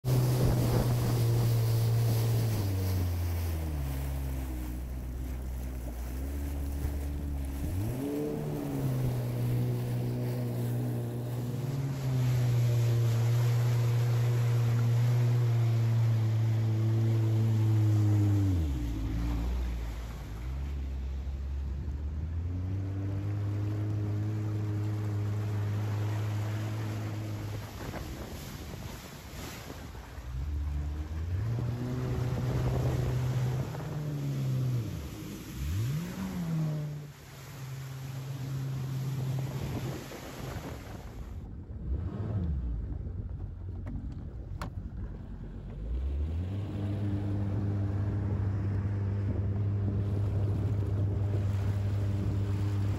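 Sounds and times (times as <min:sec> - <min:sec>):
jet ski engine droning: 0:00.0 - 0:52.9
water rushing under hull: 0:00.0 - 0:52.9.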